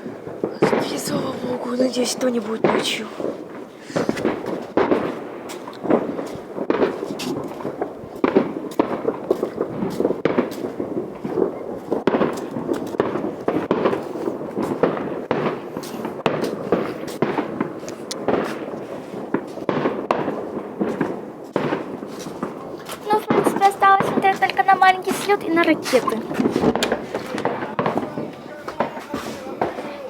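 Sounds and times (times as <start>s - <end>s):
fireworks bangs and crackling pops: 0.0s - 30.0s.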